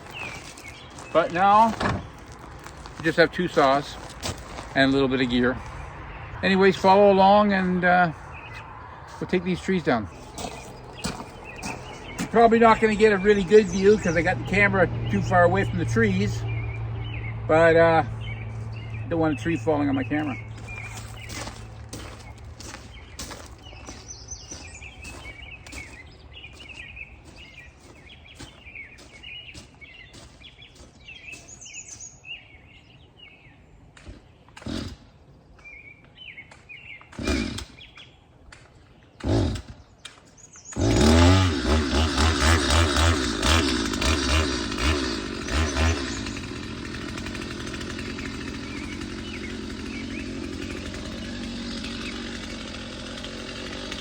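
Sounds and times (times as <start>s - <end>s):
chainsaw revving and running: 0.0s - 29.4s, 34.6s - 35.2s, 37.1s - 38.0s, 39.2s - 39.9s, 40.6s - 54.0s
faint birds chirping: 0.0s - 42.0s, 42.6s - 54.0s.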